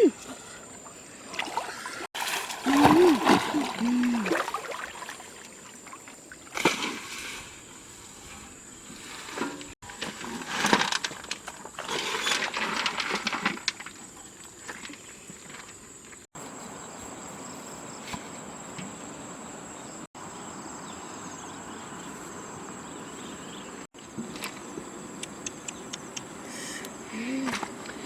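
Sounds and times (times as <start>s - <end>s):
insects chirring: 0.0s - 9.2s, 10.5s - 28.0s.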